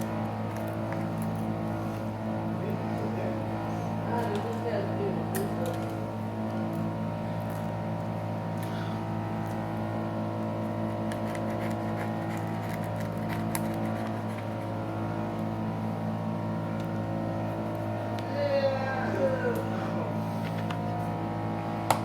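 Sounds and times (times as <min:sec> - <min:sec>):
small motor humming: 0:00.0 - 0:22.0.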